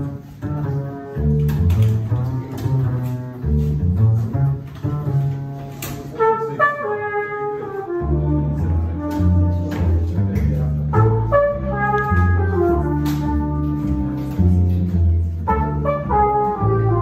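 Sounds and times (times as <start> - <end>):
flugelhorn melody: 0.0 - 10.2, 10.8 - 17.0
double bass plucking: 0.0 - 17.0.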